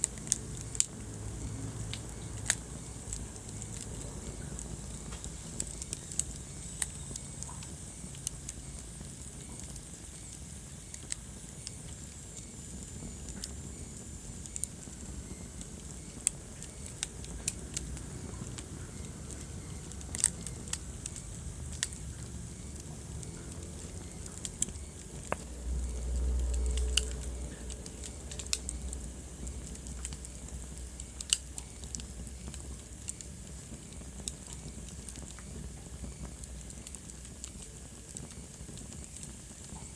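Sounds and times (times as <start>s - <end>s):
rumble of flames: 0.0s - 39.9s
wood fire crackling: 0.0s - 39.9s.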